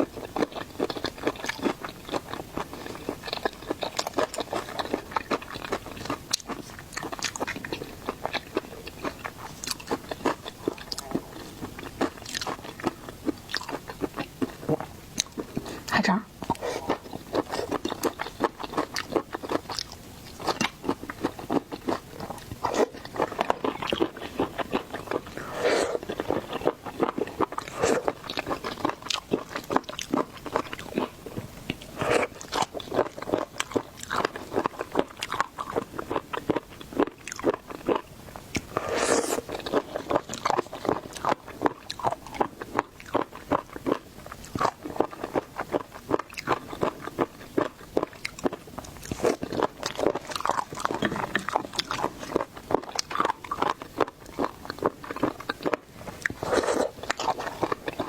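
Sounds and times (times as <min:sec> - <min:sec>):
person chewing and crunching: 0:00.0 - 0:58.0.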